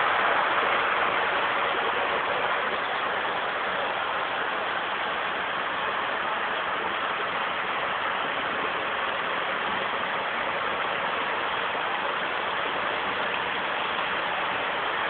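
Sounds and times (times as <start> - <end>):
heavy rain pouring on paving: 0.0 - 15.0.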